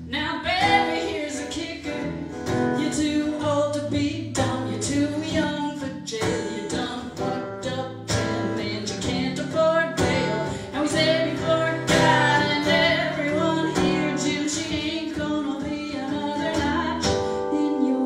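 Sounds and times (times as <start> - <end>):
strummed acoustic guitar: 0.0 - 18.0
woman singing: 0.0 - 18.0.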